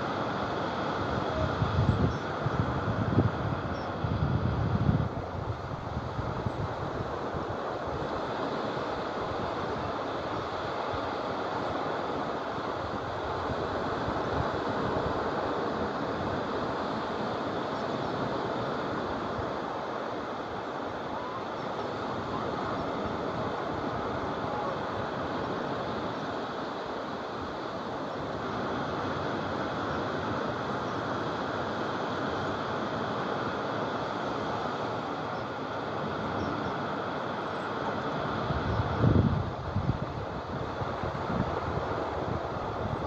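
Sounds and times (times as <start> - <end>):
small waves breaking on sand: 0.0 - 43.0.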